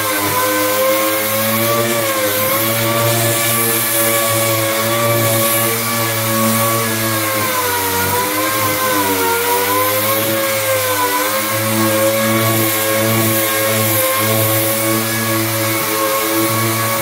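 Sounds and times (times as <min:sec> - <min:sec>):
orbital sander on wood: 0:00.0 - 0:17.0.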